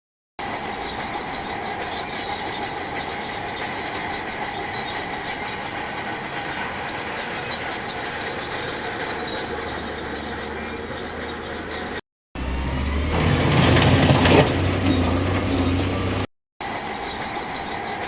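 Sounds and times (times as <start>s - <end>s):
metallic clatter and squeal: 0.4s - 12.0s, 13.0s - 18.0s
diesel engine running: 0.4s - 18.0s.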